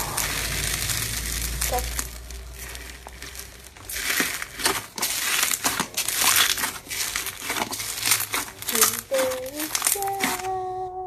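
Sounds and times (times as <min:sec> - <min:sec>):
slime squishing: 0:00.0 - 0:10.9.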